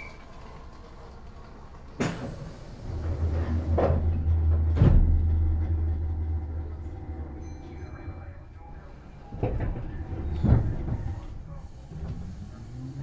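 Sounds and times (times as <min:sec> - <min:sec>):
heavy carriage clunks: 0:00.0 - 0:08.4, 0:09.1 - 0:13.0
low train rumble: 0:00.0 - 0:13.0
train doors shutting: 0:00.0 - 0:13.0.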